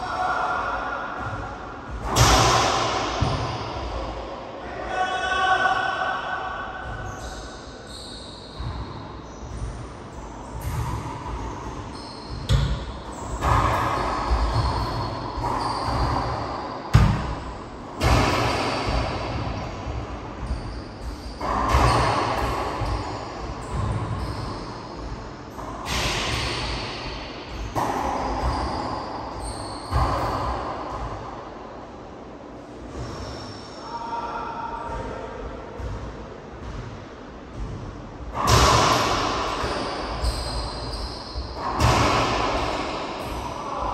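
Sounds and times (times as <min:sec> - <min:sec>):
racquetball hits echoing: 0:00.0 - 0:04.5, 0:06.2 - 0:31.6, 0:34.4 - 0:43.9.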